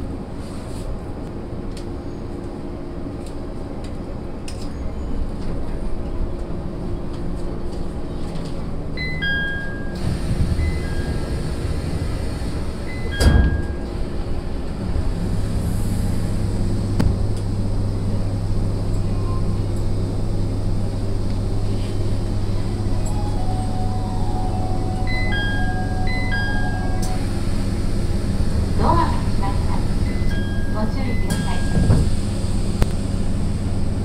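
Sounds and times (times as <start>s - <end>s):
train motor hum: 0.0s - 34.0s.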